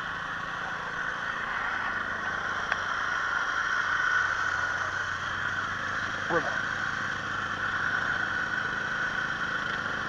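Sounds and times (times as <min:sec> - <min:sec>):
motor scooter idling: 0:00.0 - 0:10.0
traffic swishing on wet street: 0:00.0 - 0:10.0.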